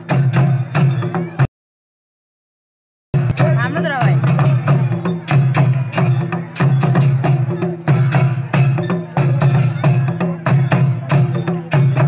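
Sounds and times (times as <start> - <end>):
folk drums beating rhythm: 0.0 - 1.5, 3.2 - 12.0.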